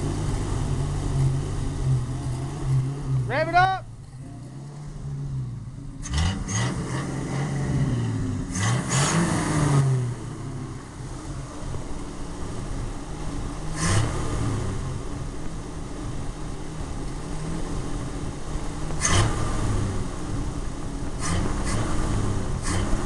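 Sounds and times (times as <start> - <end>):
truck engine revving and idling: 0.0 - 23.0.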